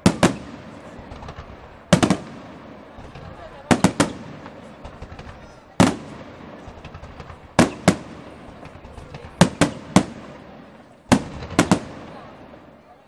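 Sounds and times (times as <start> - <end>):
firework shells bursting: 0.0 - 12.2
small firework pops: 0.0 - 12.8.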